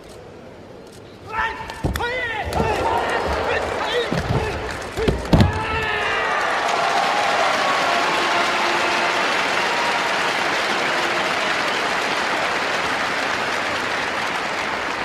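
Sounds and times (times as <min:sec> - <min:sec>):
large crowd applauding: 0:02.0 - 0:15.0.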